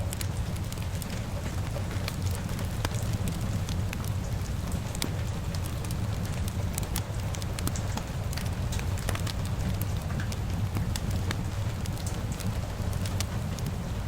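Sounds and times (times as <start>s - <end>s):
steady rain: 0.0s - 14.0s
wood fire crackling and popping: 0.0s - 14.0s.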